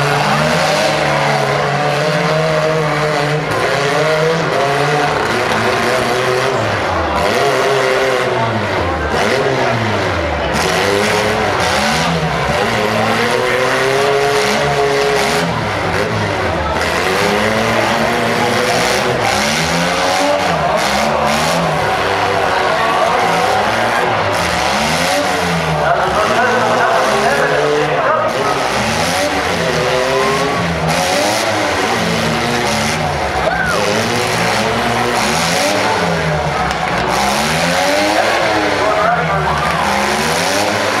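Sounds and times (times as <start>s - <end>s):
car engines revving: 0.0s - 41.0s.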